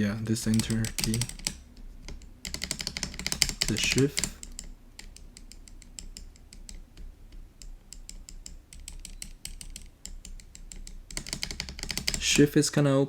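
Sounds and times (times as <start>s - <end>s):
keyboard keys clicking: 0.4s - 12.4s.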